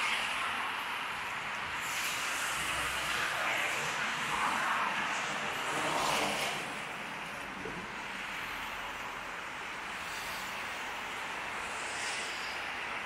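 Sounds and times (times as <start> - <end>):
road traffic noise: 0.0 - 13.0
vehicles passing: 0.0 - 13.0.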